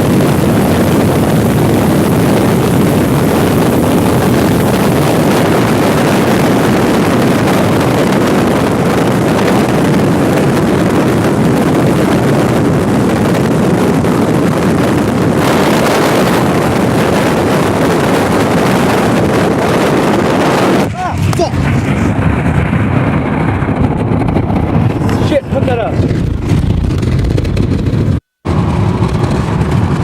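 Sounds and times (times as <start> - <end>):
loud steady rushing noise: 0.0 - 30.0.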